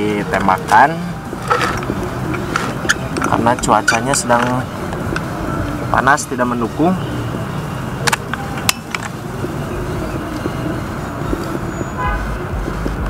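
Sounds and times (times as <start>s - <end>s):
motor vehicle rumbling: 0.0s - 13.0s
outdoor background noise: 0.0s - 13.0s.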